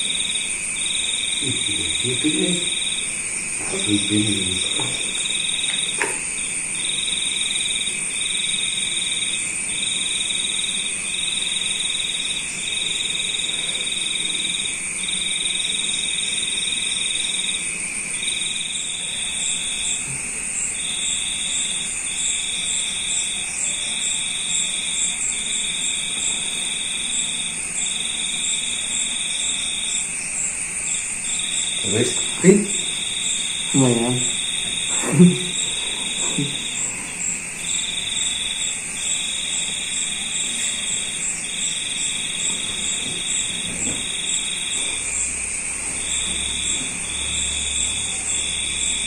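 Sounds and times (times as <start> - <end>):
crickets trilling: 0.0 - 49.0.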